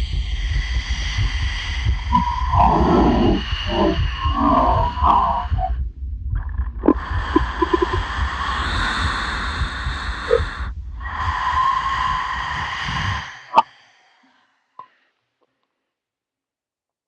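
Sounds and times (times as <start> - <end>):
amplified human breathing: 0.0 - 15.2.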